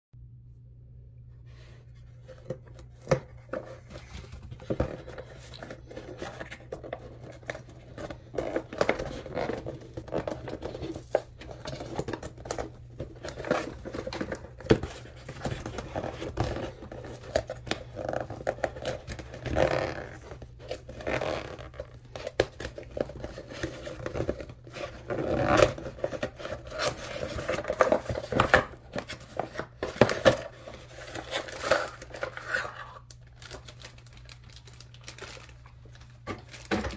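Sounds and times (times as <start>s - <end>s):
cardboard scraping and tearing: 3.5s - 35.5s.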